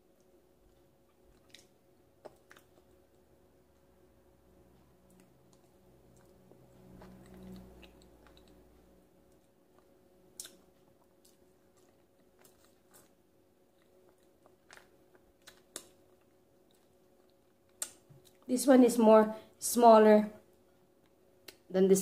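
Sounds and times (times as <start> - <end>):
person chewing soft food: 0.0 - 18.5
low steady hum: 0.0 - 22.0.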